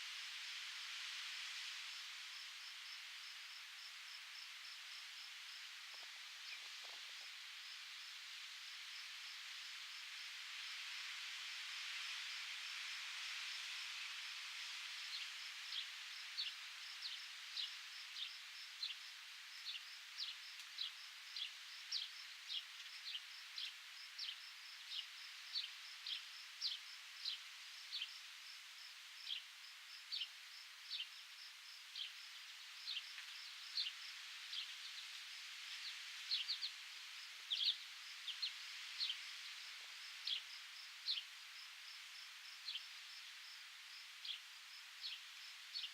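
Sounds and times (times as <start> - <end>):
faint high insect trill: 0.0 - 45.9
wind in foliage: 0.0 - 45.9.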